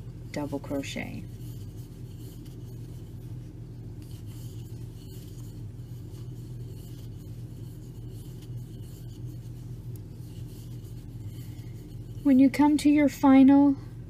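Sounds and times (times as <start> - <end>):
yarn rubbing on crochet hook: 0.0 - 13.8
steady low hum: 0.0 - 14.0.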